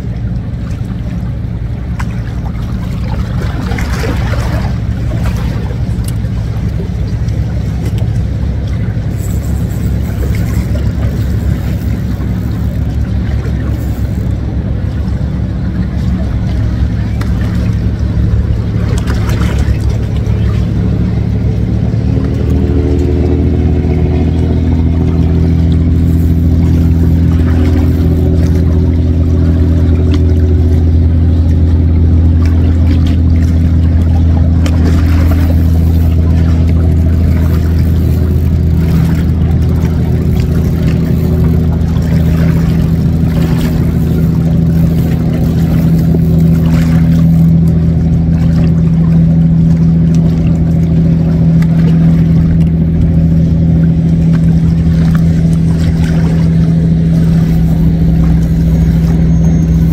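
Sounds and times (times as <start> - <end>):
engine droning: 0.0 - 59.9
higher engine tone: 0.0 - 59.9.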